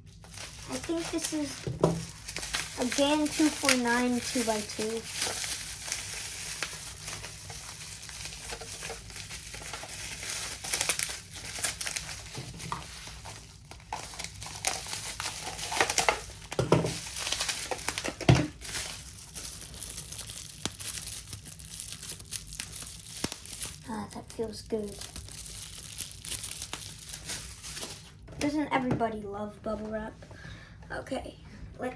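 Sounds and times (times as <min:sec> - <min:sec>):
plastic packaging crinkling: 0:00.0 - 0:28.6.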